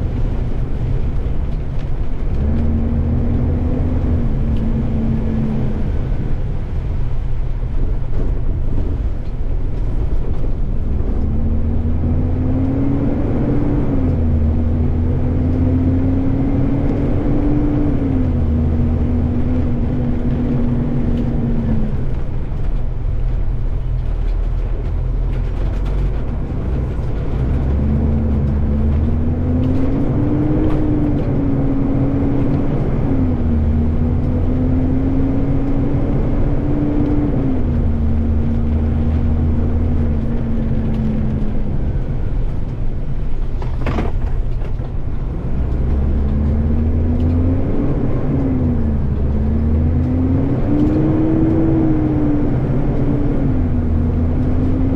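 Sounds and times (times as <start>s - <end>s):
diesel truck engine shifting gears: 0.0s - 54.9s
wind rumble on microphone: 0.0s - 54.9s.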